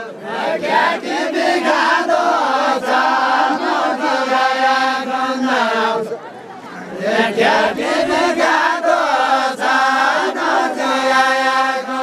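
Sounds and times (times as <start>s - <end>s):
group singing in unison: 0.0s - 6.2s, 6.9s - 12.0s.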